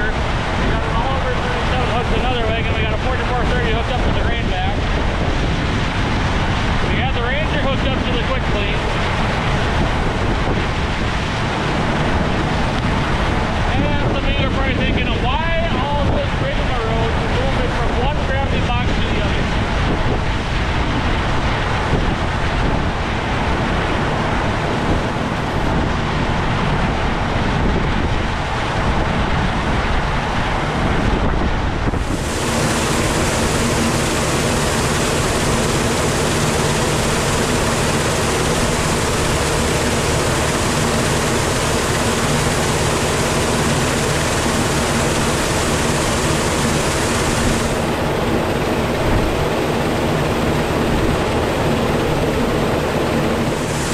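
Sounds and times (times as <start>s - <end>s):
farm machinery running: 0.0s - 53.9s
steady low hum: 0.0s - 53.9s
wind buffeting microphone: 0.0s - 53.9s.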